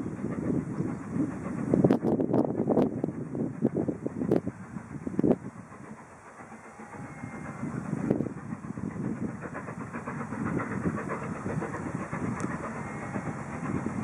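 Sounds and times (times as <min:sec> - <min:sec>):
distant steam locomotive: 0:00.0 - 0:14.0
wind rumbling on microphone: 0:00.0 - 0:14.0.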